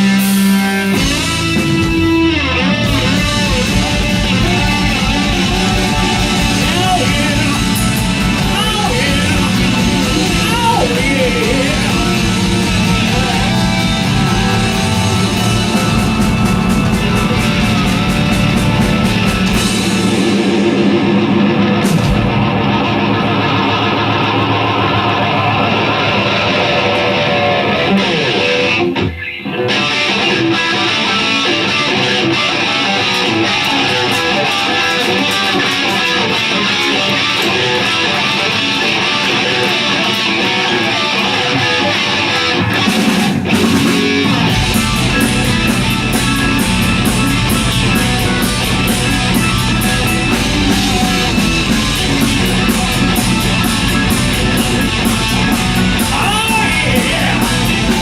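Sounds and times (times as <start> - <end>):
bass and drums: 0.0 - 29.2, 30.9 - 58.0
electric guitar: 0.0 - 58.0.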